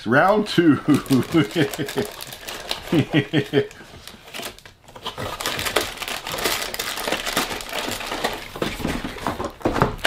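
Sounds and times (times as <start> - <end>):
plastic wrappers crinkling: 0.0 - 10.0.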